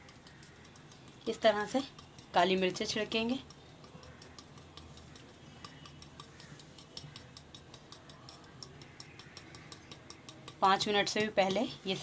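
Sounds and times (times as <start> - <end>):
pepper shaker ticking: 0.0 - 12.0.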